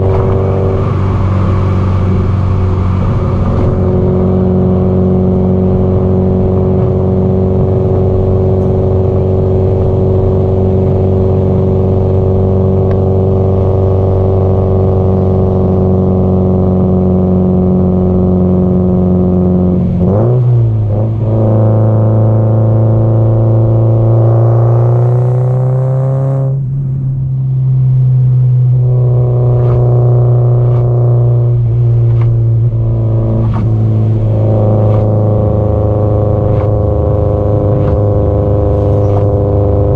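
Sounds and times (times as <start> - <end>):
car engine exhaust revving: 0.0 - 39.9.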